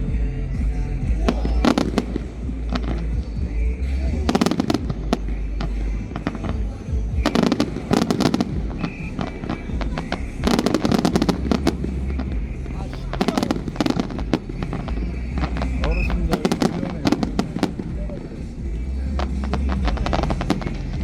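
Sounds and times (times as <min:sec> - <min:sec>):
low rumble: 0:00.0 - 0:21.0
fireworks cracking and popping: 0:01.2 - 0:03.4, 0:04.2 - 0:21.0.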